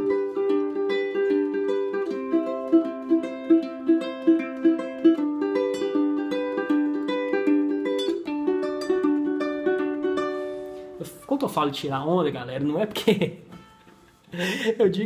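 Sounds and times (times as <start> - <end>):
ukulele fingerpicked arpeggio: 0.0 - 14.1.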